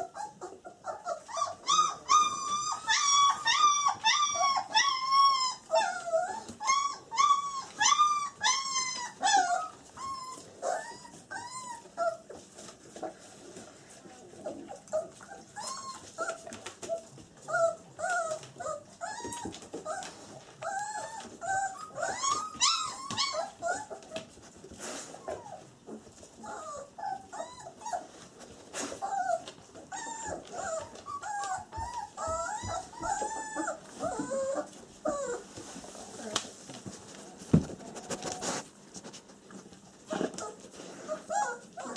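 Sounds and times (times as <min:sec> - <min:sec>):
puppies whimpering and squeaking: 0:00.0 - 0:38.8, 0:39.5 - 0:41.9.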